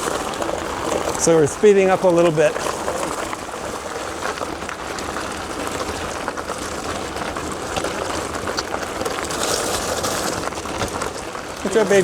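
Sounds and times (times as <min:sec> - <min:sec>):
bike tyres rolling on gravel: 0:00.0 - 0:12.0.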